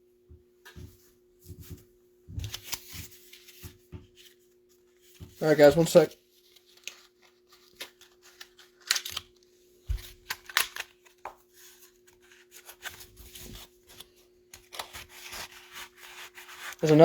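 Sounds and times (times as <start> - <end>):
cards and wrapping rustling: 2.4 - 17.0.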